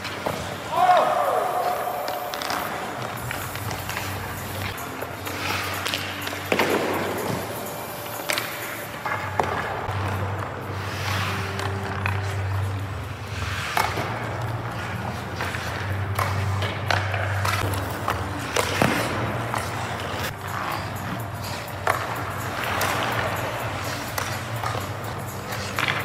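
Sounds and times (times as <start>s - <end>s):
pucks striking sticks: 0.0s - 26.0s
skate blades scraping ice: 0.0s - 26.0s.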